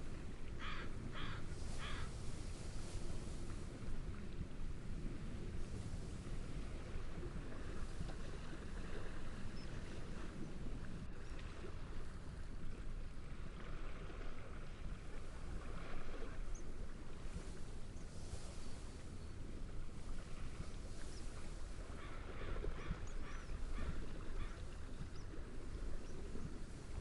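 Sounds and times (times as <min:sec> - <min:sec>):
gentle sea waves: 0:00.0 - 0:27.0
wind through reeds: 0:00.0 - 0:27.0.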